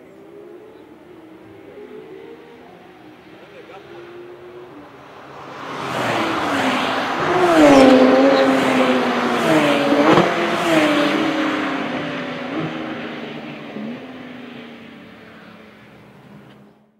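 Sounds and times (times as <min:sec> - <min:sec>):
sports cars accelerating past: 0:00.0 - 0:16.8.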